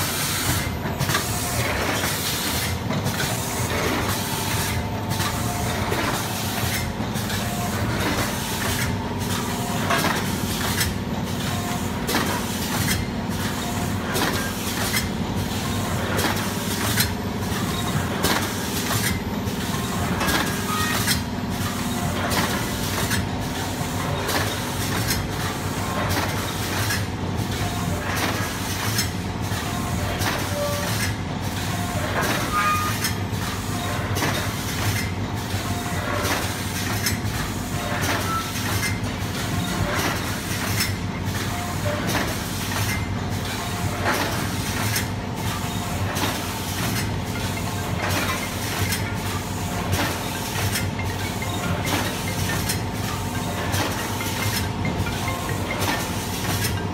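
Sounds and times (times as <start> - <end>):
packing machine hum: 0.0 - 56.9
sharp machine clacks: 0.0 - 56.9.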